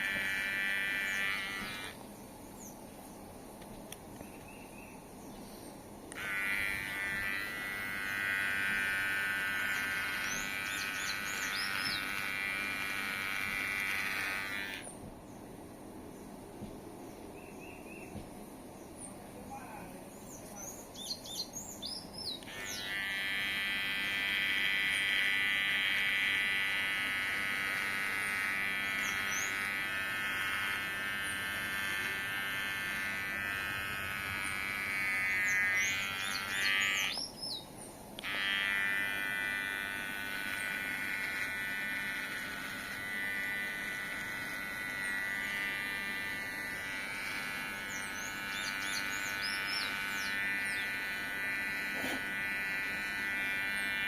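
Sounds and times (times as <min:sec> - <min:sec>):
electric hair clipper buzzing: 0:00.0 - 0:02.1, 0:06.1 - 0:15.0, 0:21.7 - 0:54.0
birds chirping: 0:00.0 - 0:54.0.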